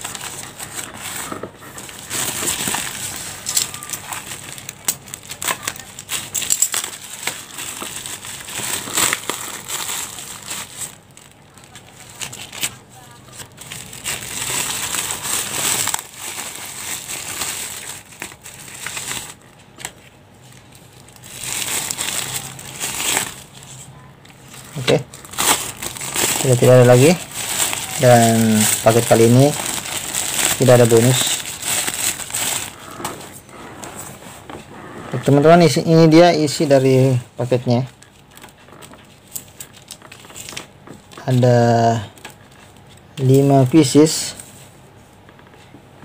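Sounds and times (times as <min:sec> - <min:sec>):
bubble wrap crinkling: 0:00.0 - 0:33.4, 0:35.2 - 0:44.6.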